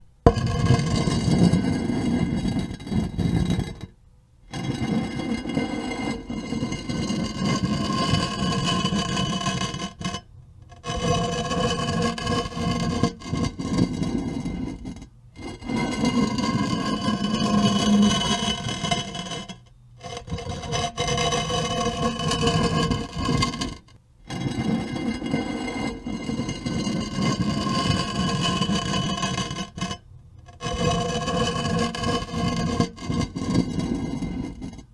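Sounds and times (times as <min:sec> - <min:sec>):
stone slab grinding on stone: 0:00.3 - 0:34.9.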